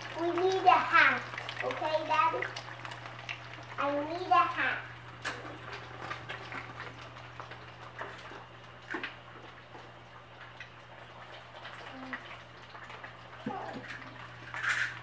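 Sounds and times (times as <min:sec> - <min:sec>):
hot oil crackling: 0:00.0 - 0:15.0.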